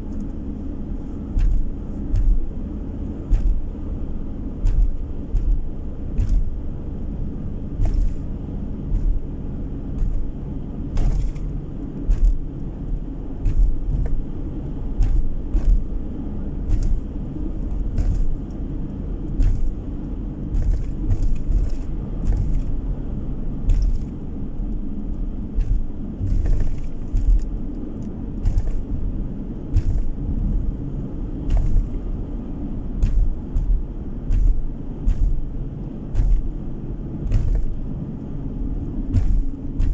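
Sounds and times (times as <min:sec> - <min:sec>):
engine and tyre rumble: 0:00.0 - 0:39.9
light clicks and knocks: 0:00.0 - 0:39.9.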